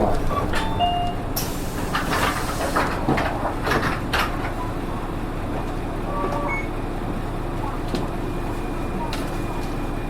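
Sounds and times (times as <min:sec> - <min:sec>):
bus engine running: 0:00.0 - 0:10.0.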